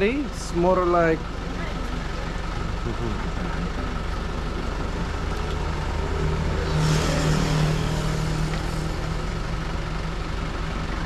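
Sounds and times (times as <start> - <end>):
vehicle engine running: 0.0 - 11.0
vehicle passing on road: 0.0 - 11.0.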